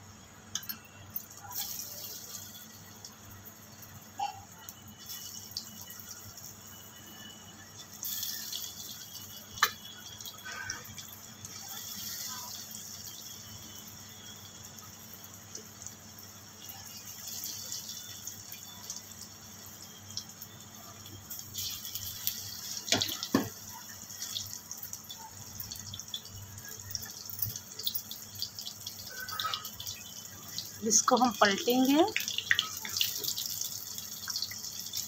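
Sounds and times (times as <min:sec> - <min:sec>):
food deep-frying in oil: 0:00.0 - 0:35.0.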